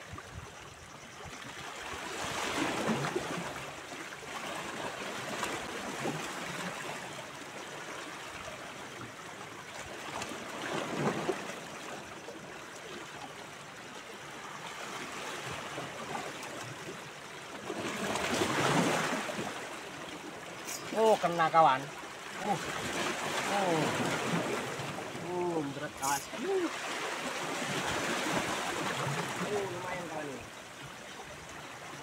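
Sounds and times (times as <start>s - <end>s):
small waves lapping at shore: 0.0s - 32.0s.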